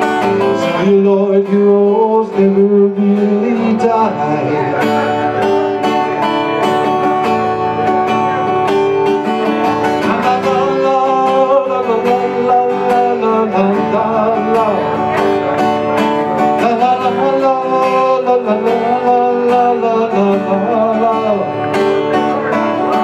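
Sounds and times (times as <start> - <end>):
rock ballad on guitar: 0.0 - 23.0.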